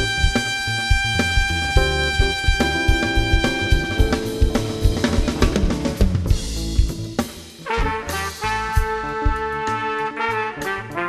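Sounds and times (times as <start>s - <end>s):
trumpet notes: 0.0s - 5.9s, 7.6s - 11.0s
jazz band playing: 0.0s - 11.0s
snare and bass drum: 0.0s - 11.0s.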